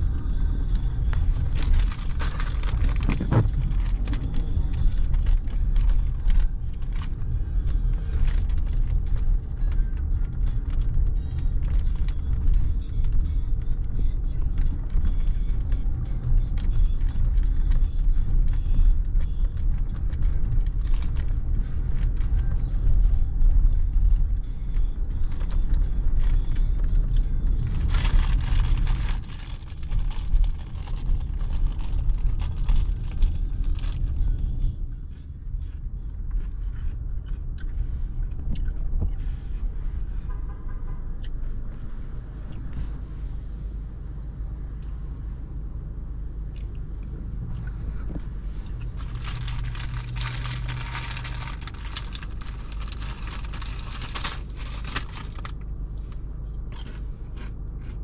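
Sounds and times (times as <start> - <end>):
car tyres rumbling on wet road: 0.0 - 43.4, 46.7 - 56.4.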